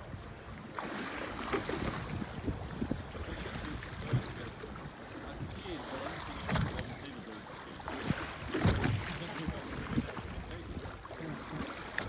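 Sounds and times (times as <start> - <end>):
sea waves: 0.0 - 12.0
wind buffeting microphone: 1.3 - 7.1, 7.9 - 12.0.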